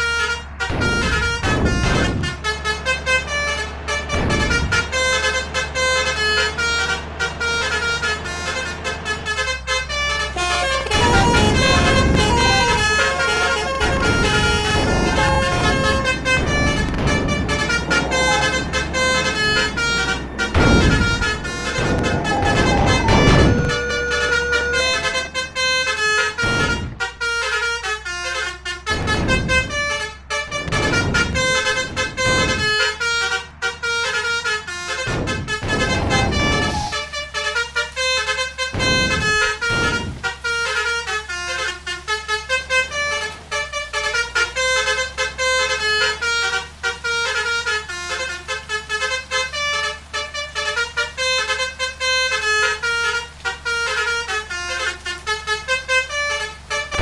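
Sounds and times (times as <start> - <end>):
loud noisy horn blasts: 0.0 - 57.0
low engine hum: 0.0 - 57.0
multi-tone bus horns playing melodies: 0.0 - 57.0.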